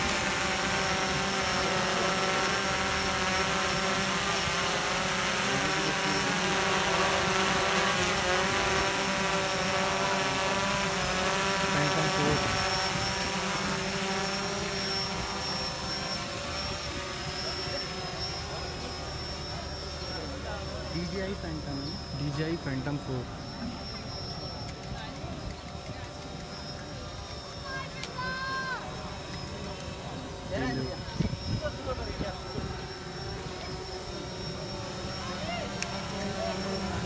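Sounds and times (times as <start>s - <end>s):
drone propellers whining: 0.0s - 37.0s.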